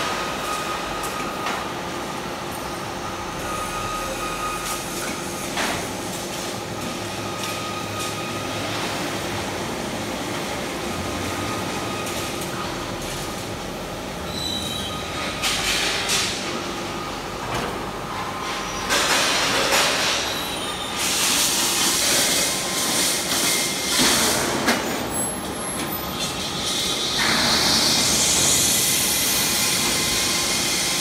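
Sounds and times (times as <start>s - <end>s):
machine hum with whining tones: 0.0s - 31.0s.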